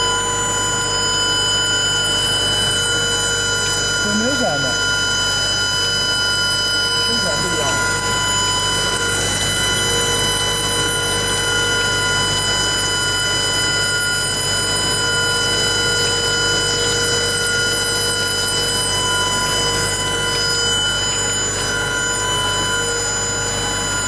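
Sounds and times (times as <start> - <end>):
welding machine whine and hiss: 0.0 - 24.0.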